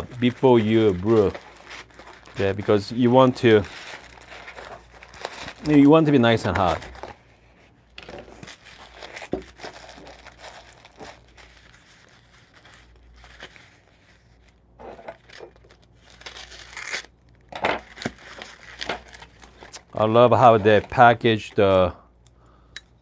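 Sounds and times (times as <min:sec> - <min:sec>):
cardboard and paper rustling: 0:00.0 - 0:17.0, 0:17.7 - 0:21.5.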